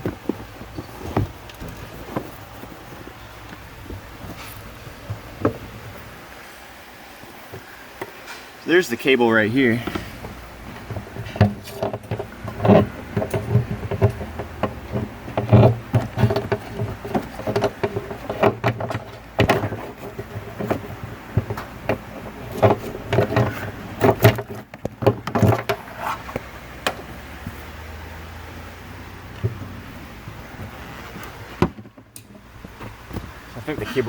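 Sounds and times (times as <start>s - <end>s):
hands rustling carpet and trim: 0.0s - 6.4s, 9.8s - 34.0s.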